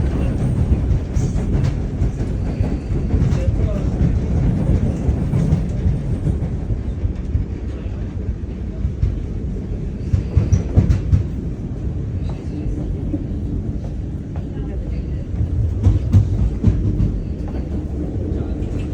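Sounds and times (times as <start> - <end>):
train clunks: 0.0 - 11.6, 12.2 - 18.9
train low rumble: 0.0 - 18.9.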